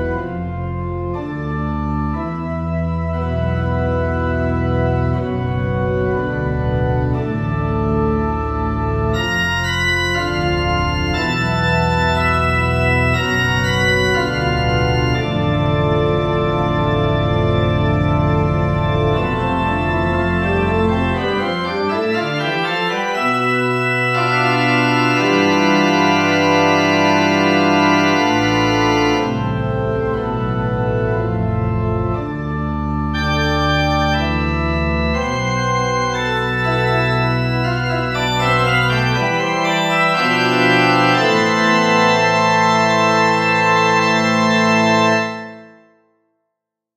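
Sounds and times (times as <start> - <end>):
organ chords: 0.0 - 46.1.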